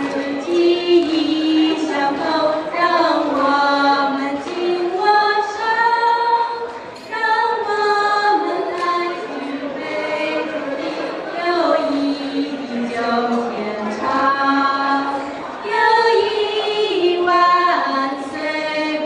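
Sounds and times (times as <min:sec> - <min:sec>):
girls singing unaccompanied: 0:00.0 - 0:19.0.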